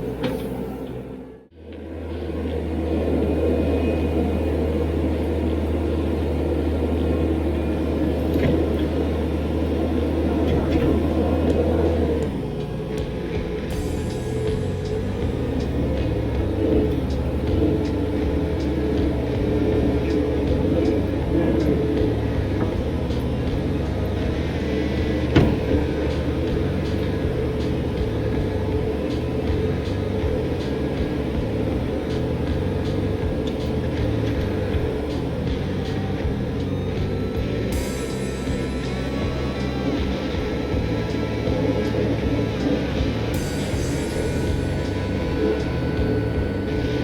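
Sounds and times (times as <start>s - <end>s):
diesel engine droning: 0.0s - 47.0s.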